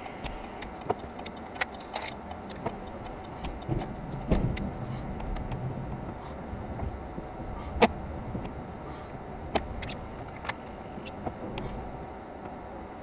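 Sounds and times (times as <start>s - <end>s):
truck engine rumble: 0.0s - 13.0s.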